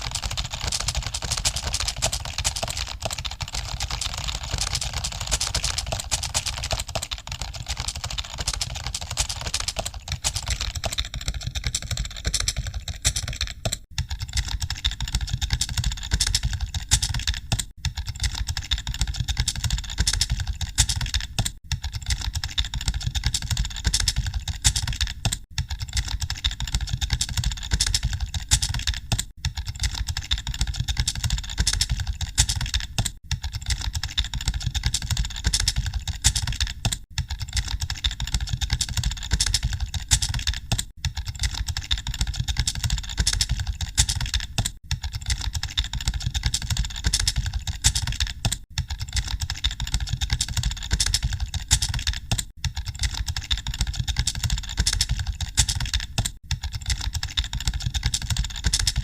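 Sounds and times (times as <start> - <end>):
fast typing on keyboards: 0.0 - 59.0.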